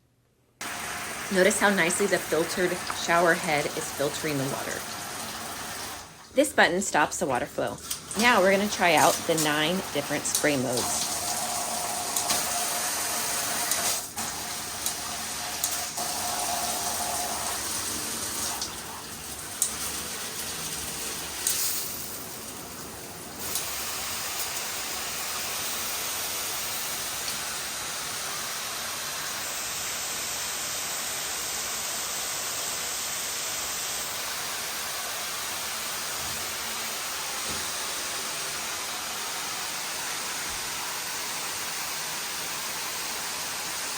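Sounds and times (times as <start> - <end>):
shower head water spraying: 0.6 - 43.9.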